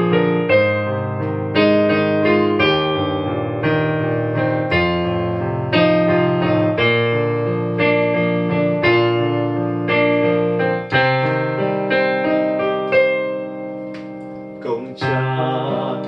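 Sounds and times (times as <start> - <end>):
digital piano chords: 0.0 - 16.0.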